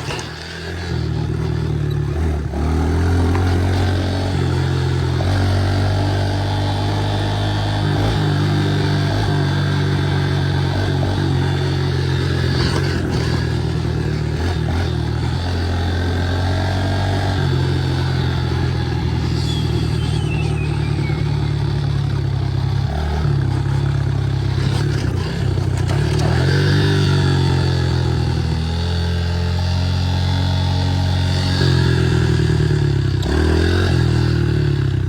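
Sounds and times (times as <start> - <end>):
small motorbike engine running: 0.0 - 35.0.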